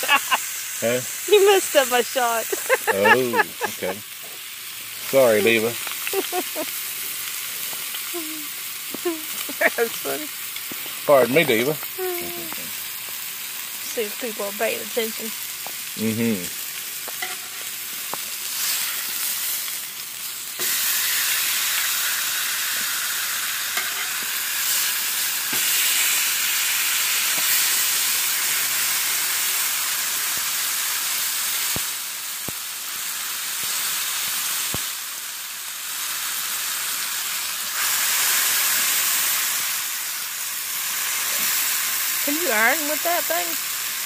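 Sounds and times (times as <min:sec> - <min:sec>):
steaks sizzling on griddle: 0:00.0 - 0:44.0.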